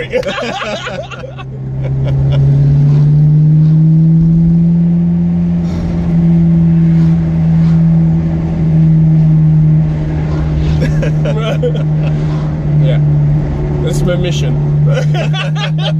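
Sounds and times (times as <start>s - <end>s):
car engine from inside cabin: 0.0s - 15.9s.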